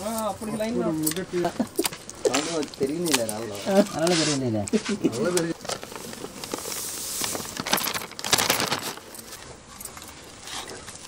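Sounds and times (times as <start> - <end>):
paper rustling: 1.2 - 11.0.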